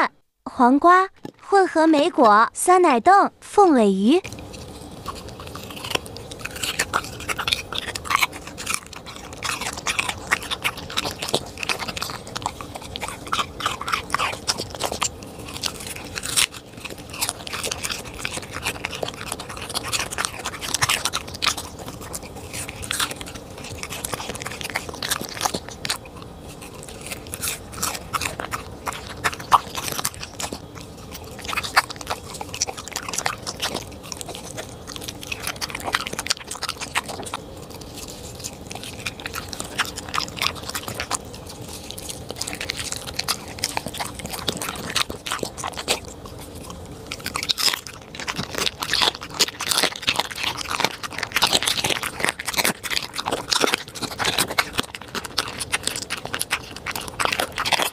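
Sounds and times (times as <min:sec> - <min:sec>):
dog chewing with crunching: 0:03.7 - 0:57.9.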